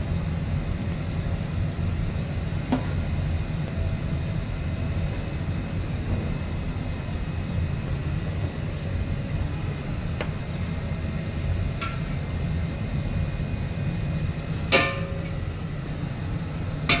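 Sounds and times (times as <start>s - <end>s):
wok burner rumble: 0.0s - 17.0s.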